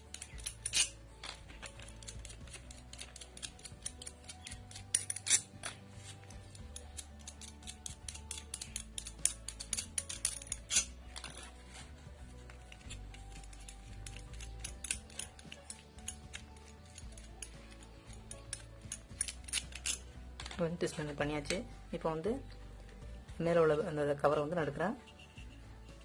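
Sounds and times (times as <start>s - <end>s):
screwdriver clicking and scraping: 0.0s - 21.7s, 25.0s - 26.0s
background music with bass: 0.0s - 26.0s.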